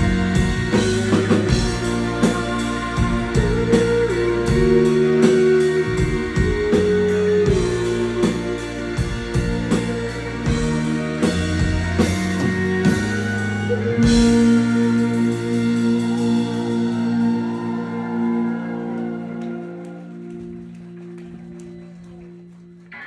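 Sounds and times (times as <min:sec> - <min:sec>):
live rock band playing: 0:00.0 - 0:22.1.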